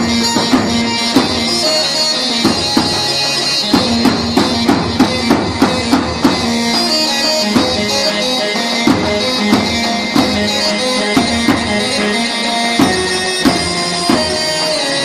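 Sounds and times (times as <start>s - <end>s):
reed wind instrument droning melody: 0.0s - 15.0s
regular drum beat: 0.0s - 15.0s.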